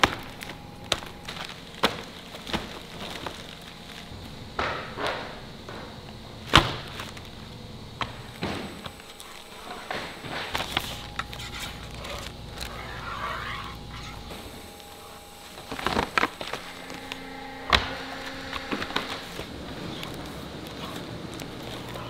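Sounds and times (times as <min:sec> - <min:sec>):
plastic wrapping crinkling: 0:00.0 - 0:22.0
steady low hum: 0:00.0 - 0:22.0.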